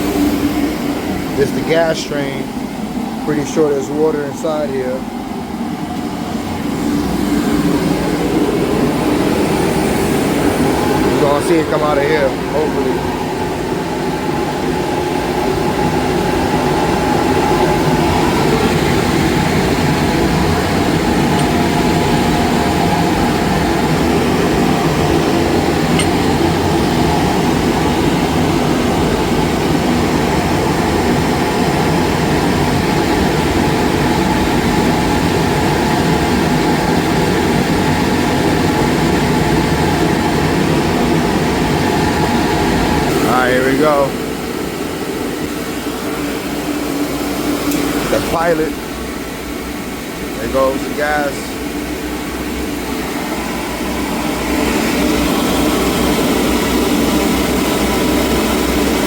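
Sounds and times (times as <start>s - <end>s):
boiler rushing rumble: 0.0s - 59.0s.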